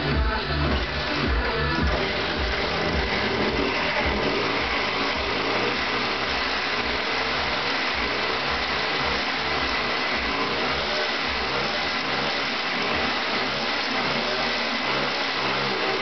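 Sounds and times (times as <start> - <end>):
scooter two-stroke engine running: 0.0 - 16.0.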